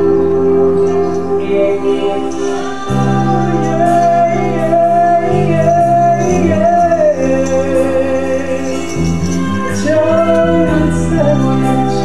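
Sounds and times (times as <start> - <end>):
instrumental backing chords: 0.0 - 12.0
man singing into microphone: 0.0 - 12.0.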